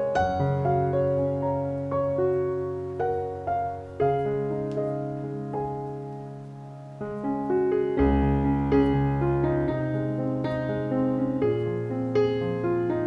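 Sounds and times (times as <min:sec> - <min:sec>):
slow calm piano music: 0:00.0 - 0:13.0.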